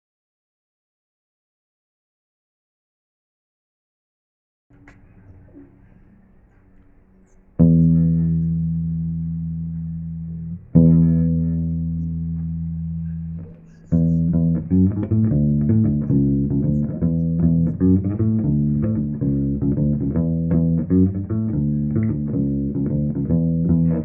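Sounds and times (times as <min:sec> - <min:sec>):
electric bass guitar notes: 0:04.8 - 0:24.0.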